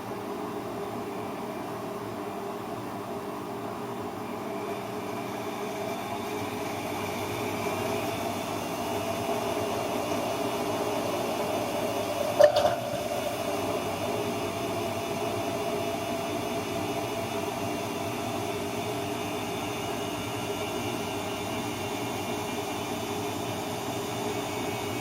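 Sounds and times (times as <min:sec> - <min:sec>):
washing machine motor hum: 0:03.1 - 0:25.0.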